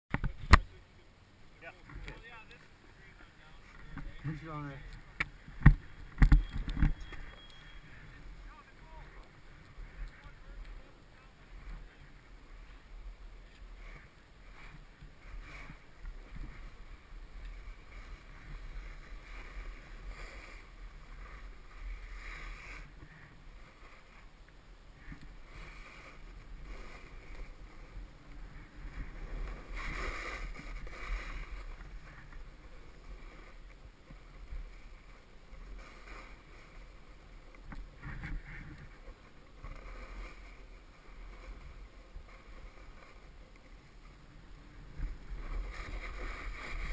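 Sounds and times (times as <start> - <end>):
snowboard scraping over snow: 1.6 - 46.9
wind rumble on microphone: 3.6 - 46.9.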